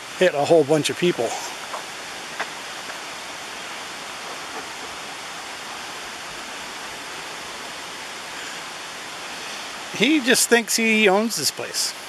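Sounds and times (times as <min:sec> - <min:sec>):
creek rushing: 0:00.0 - 0:12.0.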